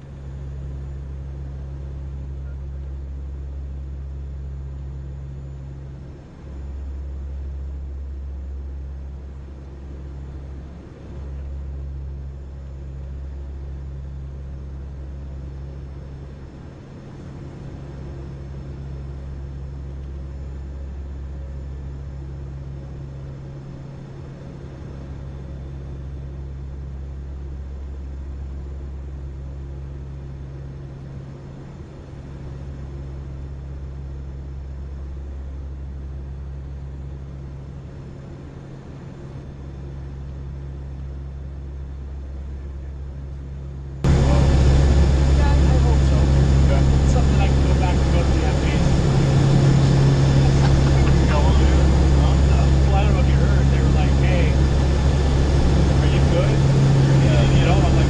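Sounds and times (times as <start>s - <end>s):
aircraft engine drone in cabin: 0.0s - 58.0s
steady low rumble: 0.0s - 58.0s.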